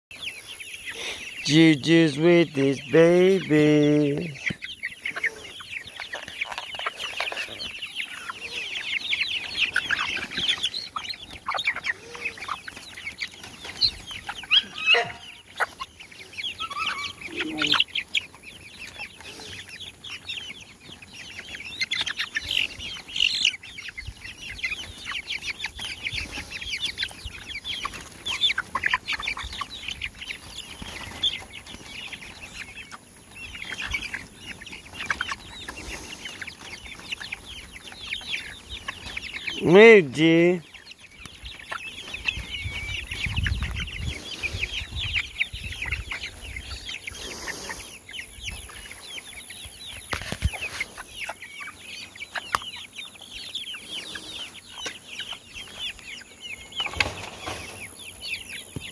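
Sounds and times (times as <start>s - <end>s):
chickens clucking: 0.1s - 58.9s.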